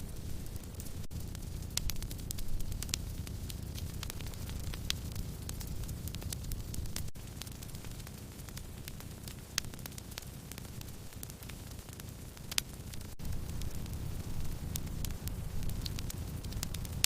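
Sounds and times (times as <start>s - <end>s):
low rush of burning logs: 0.0s - 17.0s
wood fire crackling: 0.0s - 17.0s.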